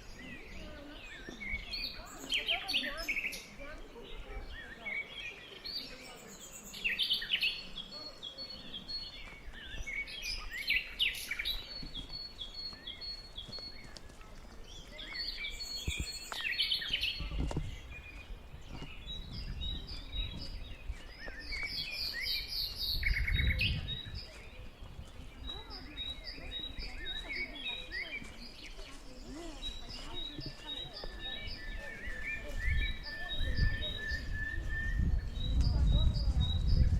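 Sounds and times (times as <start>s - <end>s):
songbirds singing and calling: 0.0s - 36.9s.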